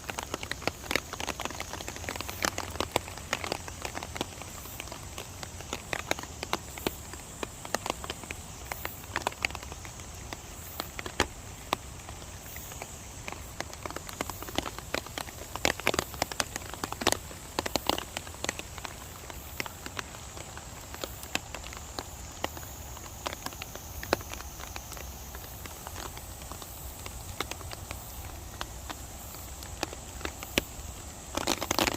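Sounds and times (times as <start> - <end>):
rain hissing: 0.0 - 31.9
raindrops hitting surfaces: 0.0 - 31.9.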